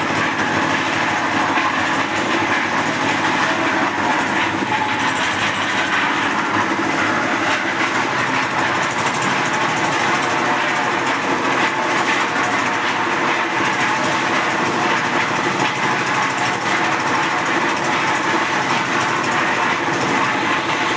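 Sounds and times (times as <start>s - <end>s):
concrete mixer running: 0.0s - 20.9s.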